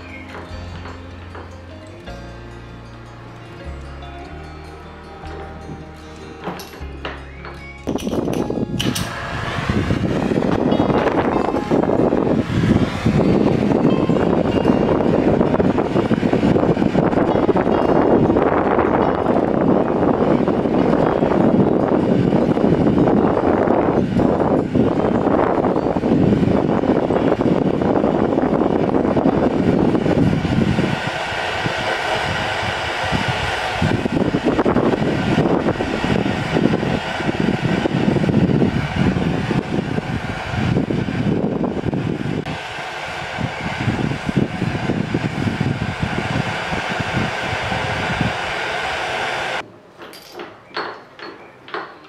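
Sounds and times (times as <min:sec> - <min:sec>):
gas torch flame rushing: 0:07.8 - 0:49.6.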